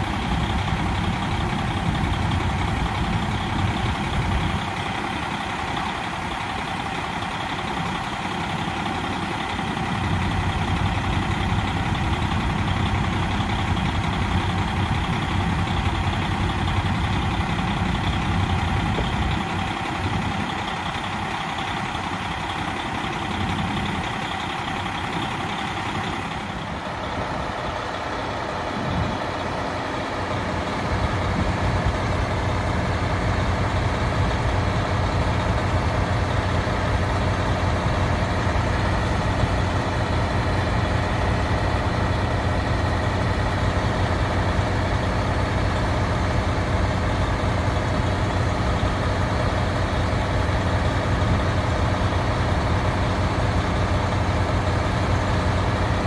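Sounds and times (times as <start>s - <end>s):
diesel railcar engine idling: 0.0s - 56.0s
onboard generator running: 0.0s - 56.0s.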